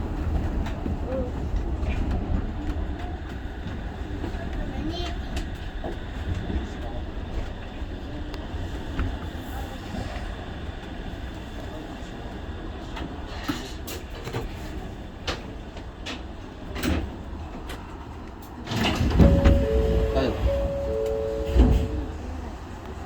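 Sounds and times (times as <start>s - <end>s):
train low hum: 0.0s - 23.0s.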